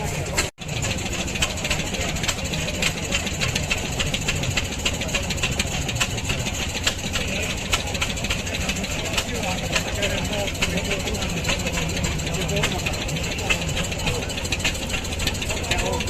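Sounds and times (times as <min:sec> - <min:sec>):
rapid clatter of sharp ticks: 0:00.0 - 0:16.0
tank engine rumbling: 0:00.0 - 0:16.0.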